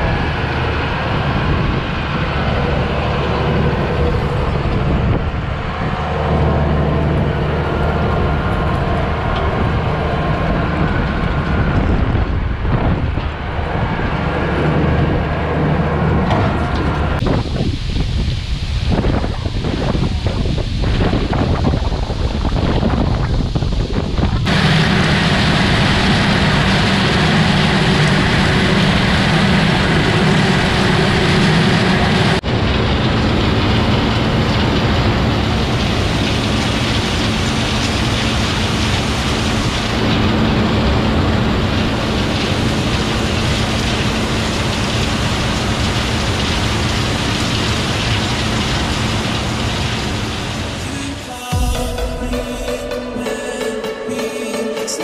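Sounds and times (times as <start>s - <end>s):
harvest machinery engine drone: 0.0s - 18.0s, 19.2s - 55.0s
wind buffeting microphone: 0.0s - 50.8s
rushing noise: 0.0s - 55.0s.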